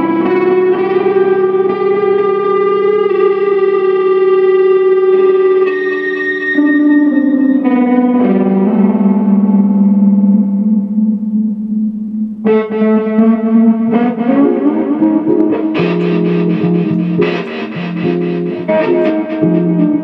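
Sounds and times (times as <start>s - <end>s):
electric guitar with tremolo feedback: 0.0s - 20.0s.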